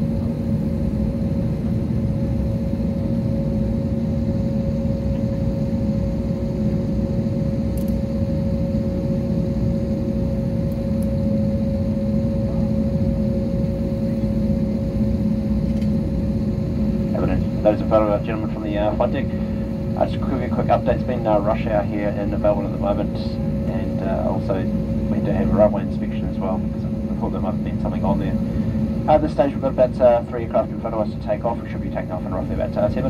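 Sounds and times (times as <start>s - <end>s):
airliner cabin drone: 0.0s - 33.0s.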